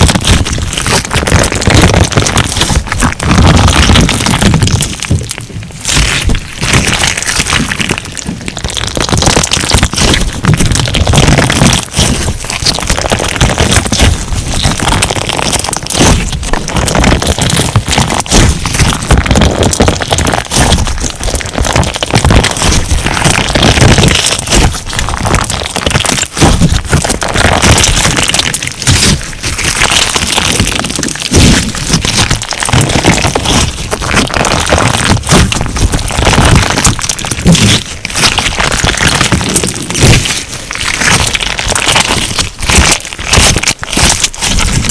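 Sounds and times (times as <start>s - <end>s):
crunchy slime crackling and squishing: 0.0s - 44.9s.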